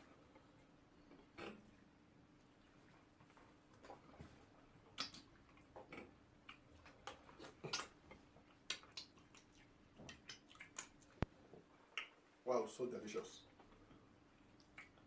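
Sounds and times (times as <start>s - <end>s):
wet chewing mouth sounds: 0.0s - 12.4s, 13.4s - 15.0s.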